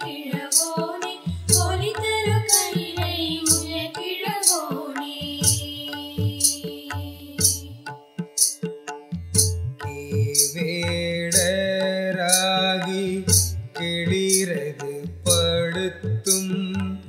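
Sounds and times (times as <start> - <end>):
drum beat: 0.0 - 17.0.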